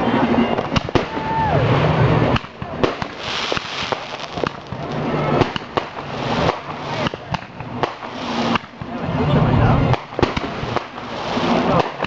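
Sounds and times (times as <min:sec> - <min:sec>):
fireworks banging: 0:00.2 - 0:12.0
fireworks crackling hiss: 0:00.5 - 0:09.2, 0:09.9 - 0:12.0.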